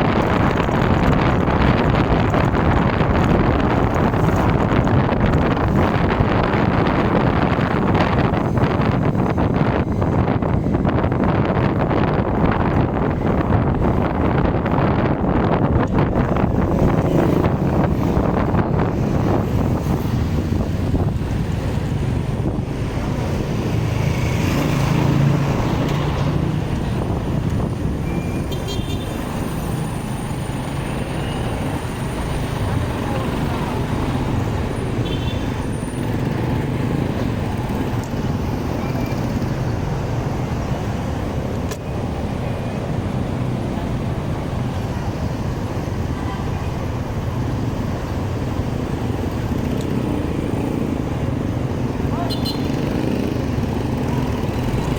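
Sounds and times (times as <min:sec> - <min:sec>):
road noise: 0:00.0 - 0:54.9
traffic noise: 0:00.0 - 0:54.9.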